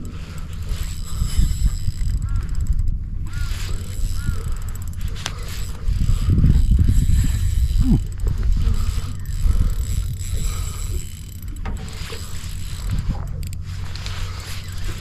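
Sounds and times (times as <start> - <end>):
fishing reel ticking: 0.0 - 15.0
low rumble: 0.0 - 15.0.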